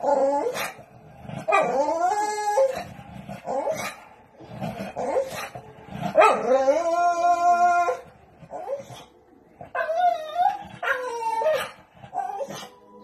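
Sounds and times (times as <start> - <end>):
dog howling and whining: 0.0 - 12.9.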